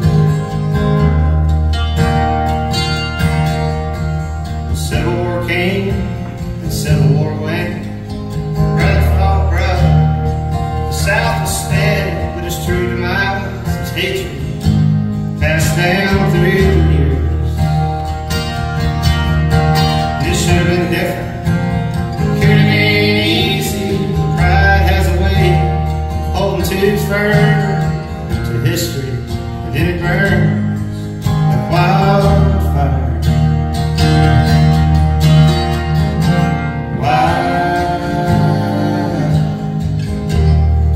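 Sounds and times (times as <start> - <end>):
acoustic guitars playing folk: 0.0 - 40.9.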